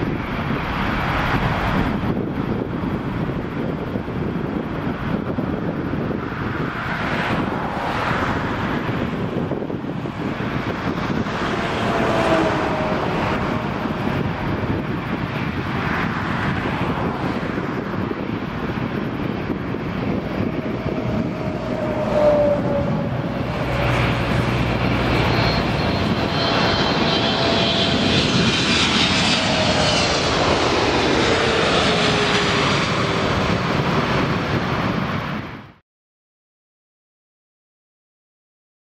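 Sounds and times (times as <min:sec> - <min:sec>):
jet engine whine: 0:00.0 - 0:35.8
jet engines roaring: 0:00.0 - 0:35.8.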